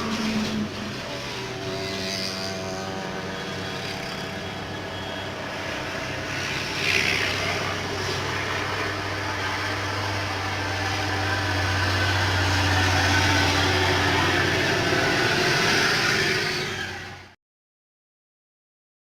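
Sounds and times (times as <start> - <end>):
heavy truck engine labouring: 0.0 - 17.4.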